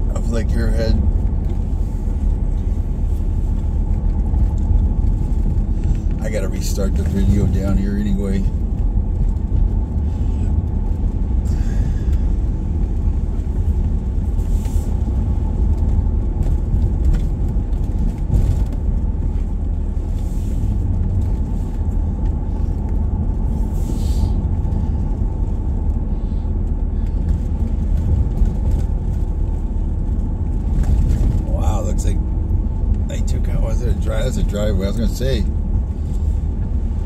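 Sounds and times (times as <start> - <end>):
vehicle driving from inside cabin: 0.0 - 37.0.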